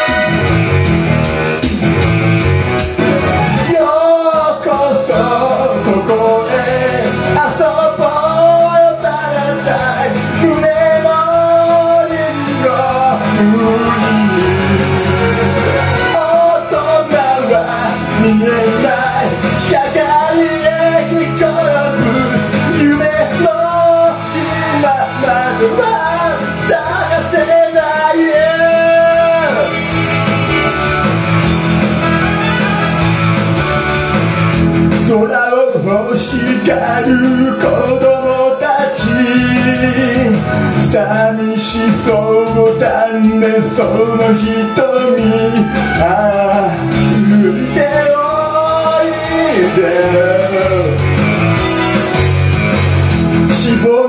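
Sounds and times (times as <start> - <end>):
rock backing track with guitar: 0.0 - 54.0
man singing into microphone: 3.5 - 30.7, 34.9 - 51.2, 53.4 - 54.0.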